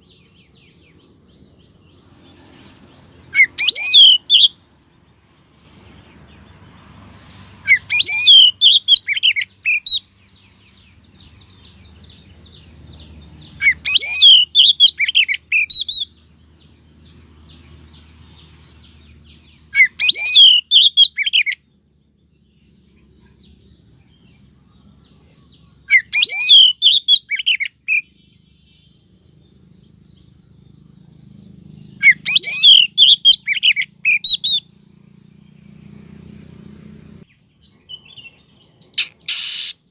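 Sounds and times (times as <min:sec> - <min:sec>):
bird high twittering: 0:00.0 - 0:04.6, 0:07.6 - 0:16.3, 0:18.3 - 0:21.6, 0:24.4 - 0:39.9.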